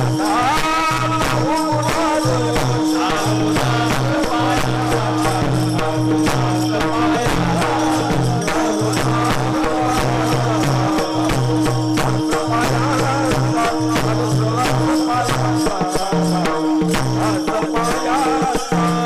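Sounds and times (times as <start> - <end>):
devotional music: 0.0 - 16.6
jingling metallic percussion: 0.0 - 19.0.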